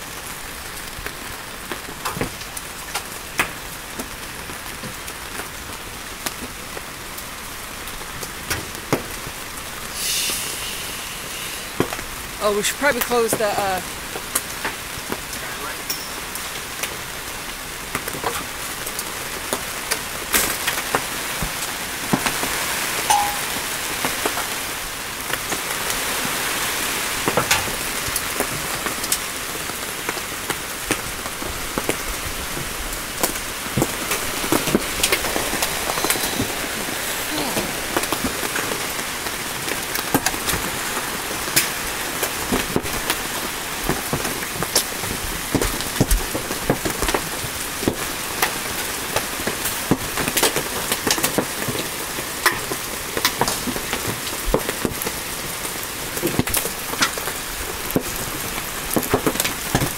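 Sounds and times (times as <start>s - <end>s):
rain and hail hissing: 0.0s - 59.9s
hailstones knocking: 11.7s - 59.9s.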